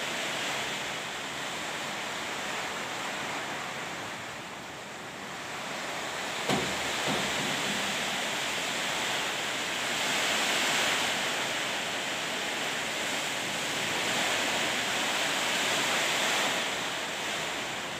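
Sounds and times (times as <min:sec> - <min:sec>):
heavy rain in strong wind: 0:00.0 - 0:17.9.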